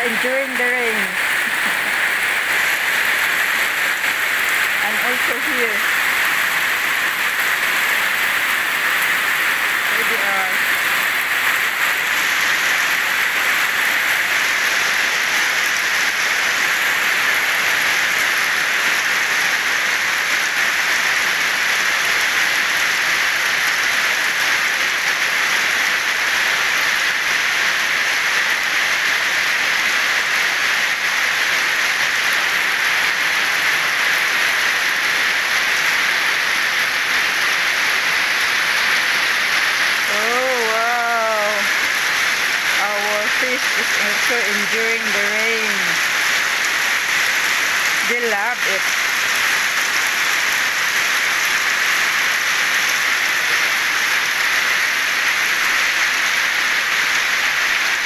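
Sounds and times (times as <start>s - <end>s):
heavy rain on lake water: 0.0s - 58.0s.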